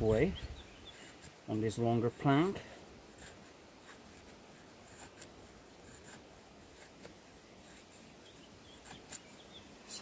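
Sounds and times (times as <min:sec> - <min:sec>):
knife scraping wood: 0:00.9 - 0:09.4.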